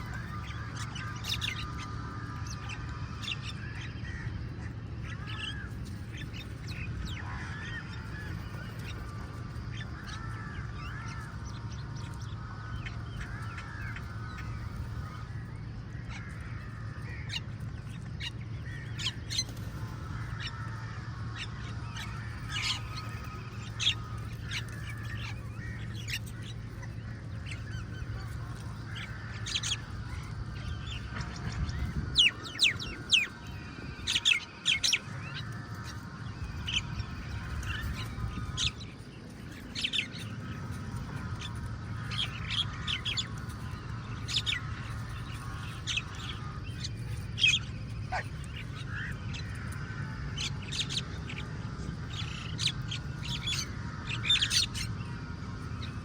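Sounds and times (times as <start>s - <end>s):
crows calling: 0.0s - 56.0s
low hum: 0.0s - 56.0s
other birds calling: 0.0s - 56.0s.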